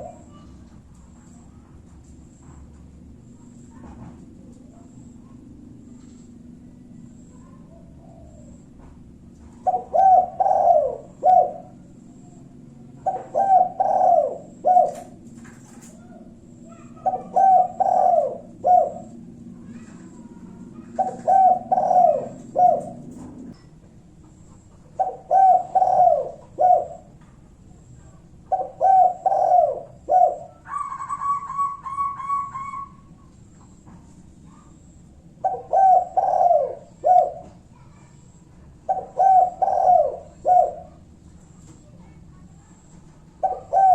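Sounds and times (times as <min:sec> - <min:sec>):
dove cooing: 0:00.0 - 0:01.4, 0:04.6 - 0:08.8, 0:09.4 - 0:23.6, 0:24.5 - 0:27.2, 0:27.8 - 0:33.8, 0:34.6 - 0:41.2, 0:42.7 - 0:43.9
faint low hum: 0:00.0 - 0:43.9.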